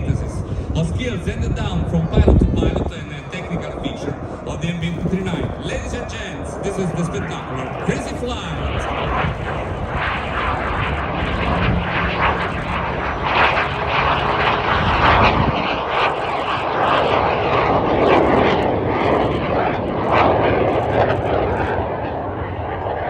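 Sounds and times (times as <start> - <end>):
jet engine roaring past: 0.0 - 23.0.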